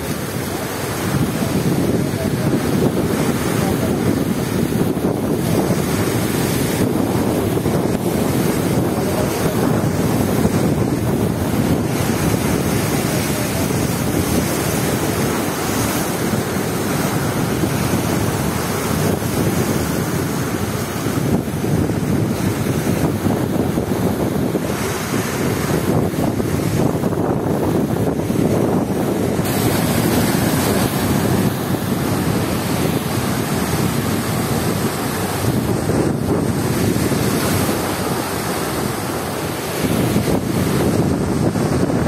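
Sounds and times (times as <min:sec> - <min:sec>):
waves breaking on stone: 0:00.0 - 0:42.0
wind buffeting microphone: 0:00.0 - 0:42.0.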